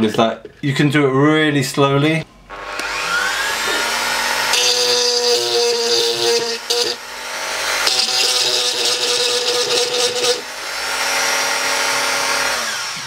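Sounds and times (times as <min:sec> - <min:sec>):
rotary tool grinding plastic: 0:02.5 - 0:13.0.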